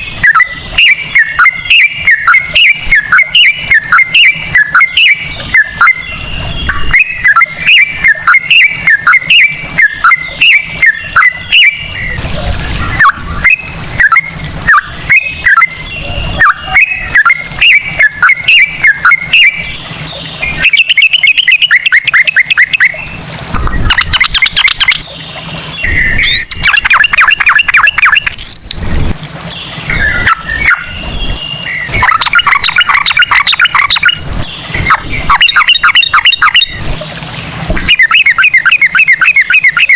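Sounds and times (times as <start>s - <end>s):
bird singing whistled notes: 0.0s - 12.2s, 12.8s - 36.8s, 37.8s - 39.9s
bird rattling trills: 0.2s - 39.9s.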